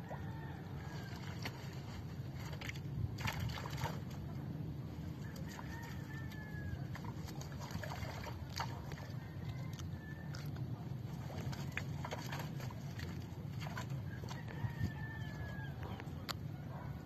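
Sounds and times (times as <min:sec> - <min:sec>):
pond water splashing and dripping: 0:00.0 - 0:16.4.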